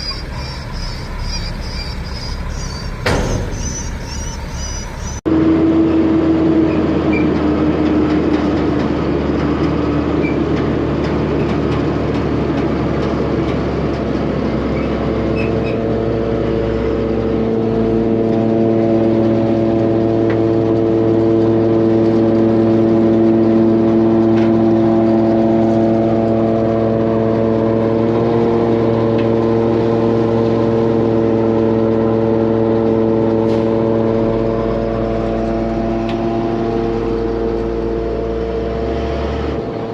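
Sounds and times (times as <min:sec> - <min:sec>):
heavy engine running under load: 0:00.0 - 0:39.9.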